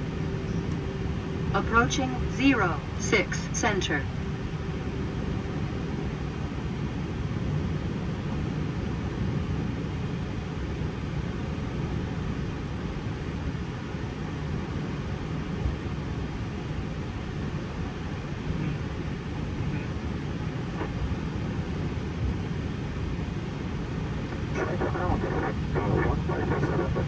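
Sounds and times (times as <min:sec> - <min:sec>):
airplane cockpit rumble: 0:00.0 - 0:27.0.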